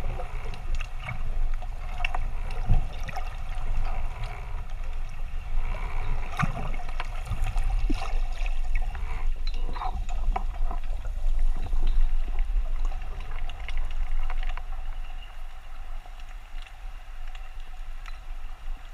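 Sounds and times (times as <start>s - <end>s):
underwater clicks and crackles: 0.0s - 18.9s
underwater rumble of moving water: 0.0s - 18.9s.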